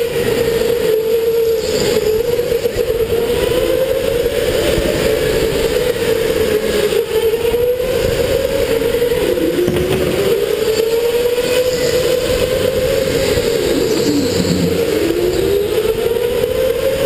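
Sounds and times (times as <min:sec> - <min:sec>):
electric go-kart motor whining: 0:00.0 - 0:17.0.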